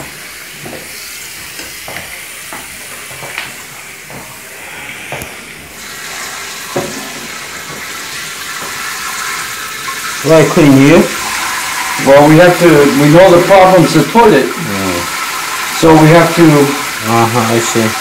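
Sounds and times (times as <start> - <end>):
water running with a hissing rush: 0.0 - 18.0.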